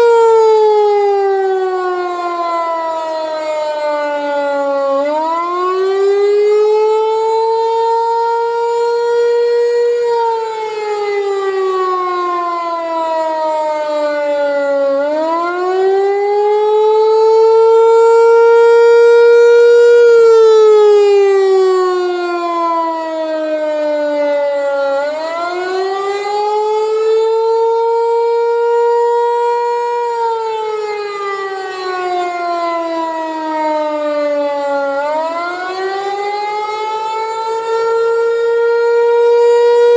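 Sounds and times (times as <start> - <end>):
rotating siren wailing: 0.0 - 39.9.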